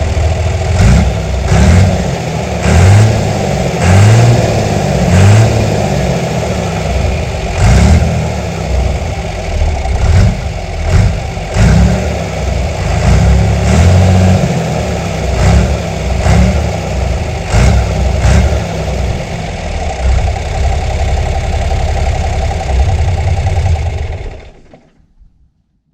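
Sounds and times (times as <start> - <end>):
tractor diesel engine revving: 0.0 - 24.9.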